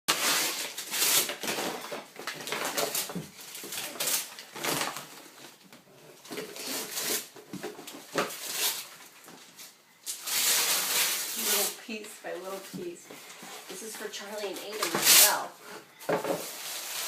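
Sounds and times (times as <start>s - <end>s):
wrapping paper rustling and tearing: 0.1s - 15.7s, 16.3s - 17.0s.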